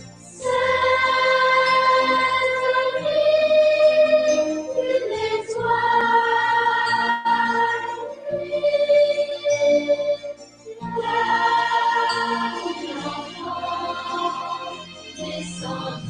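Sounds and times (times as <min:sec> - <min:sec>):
children singing: 0:00.4 - 0:16.0.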